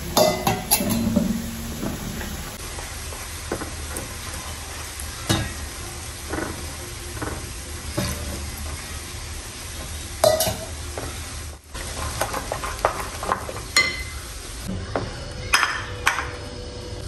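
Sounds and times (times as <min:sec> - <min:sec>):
frying sizzle: 0:00.0 - 0:17.0.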